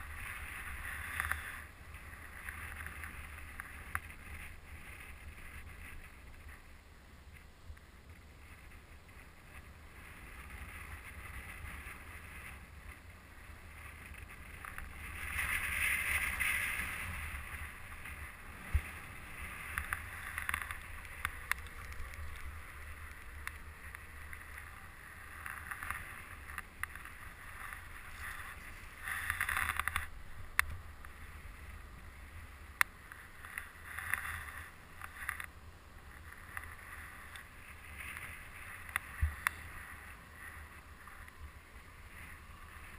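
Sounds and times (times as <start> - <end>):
rustling noise: 0.0 - 42.9
wind rumbling on microphone: 0.0 - 42.9.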